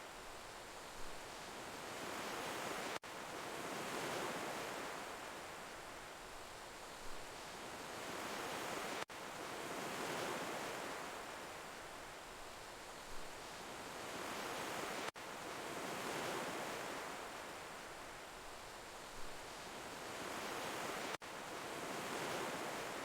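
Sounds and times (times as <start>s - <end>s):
ocean waves washing in: 1.6s - 23.0s.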